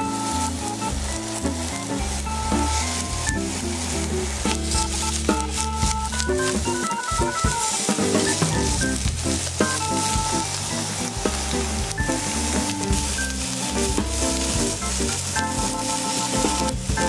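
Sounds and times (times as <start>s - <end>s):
background music: 0.0s - 17.0s
vegetables sizzling in oil: 0.0s - 17.0s.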